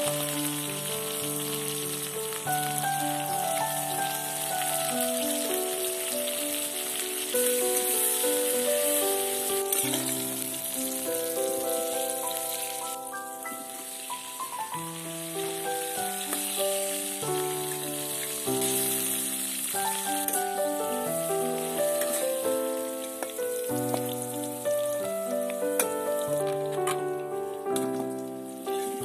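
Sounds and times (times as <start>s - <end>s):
instrumental background music: 0.0s - 29.0s
vegetables sizzling in oil: 0.0s - 29.0s.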